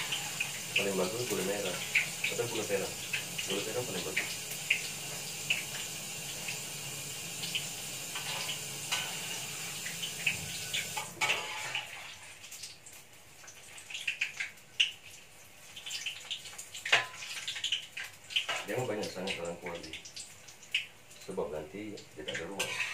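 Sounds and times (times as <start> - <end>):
food sizzling in oil: 0.0 - 22.9.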